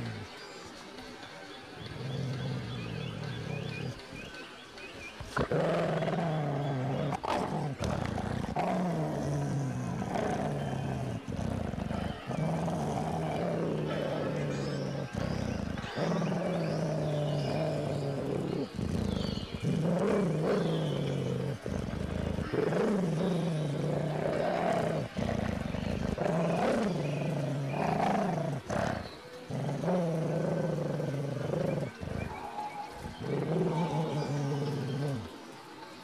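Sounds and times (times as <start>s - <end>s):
dog growling: 0.0s - 35.6s.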